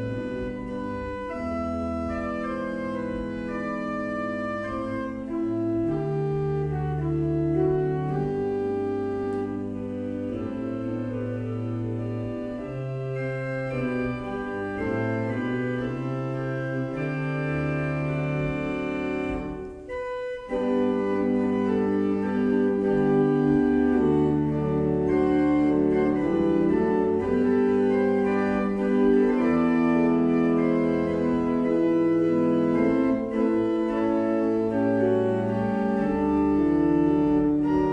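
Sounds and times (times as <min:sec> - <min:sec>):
church organ playing chords: 0:00.0 - 0:37.9.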